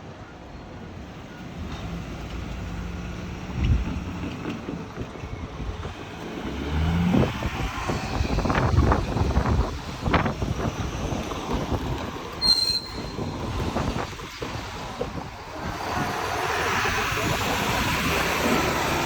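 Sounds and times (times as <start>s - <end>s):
train rumbling past: 0.8s - 19.0s
wheels clanking over rail joints: 1.0s - 19.0s.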